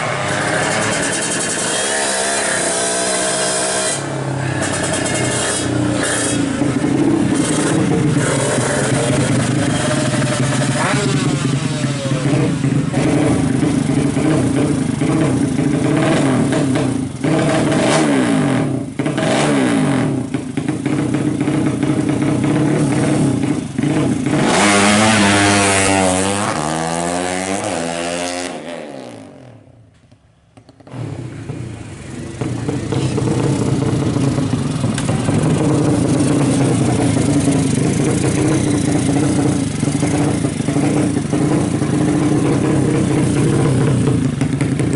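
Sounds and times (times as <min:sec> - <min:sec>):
racing motorcycle engine: 0:00.0 - 0:30.0, 0:30.6 - 0:44.9.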